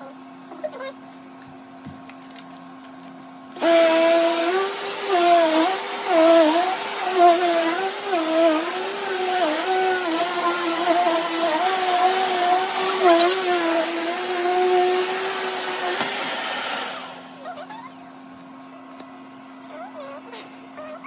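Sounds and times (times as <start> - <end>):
vacuum cleaner motor whine: 3.5 - 21.0.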